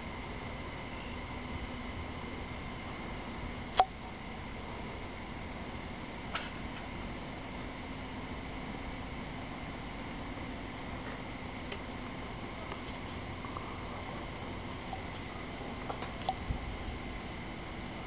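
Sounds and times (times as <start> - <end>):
faint low hum: 0.0 - 18.0
night insects chirping: 0.0 - 18.0.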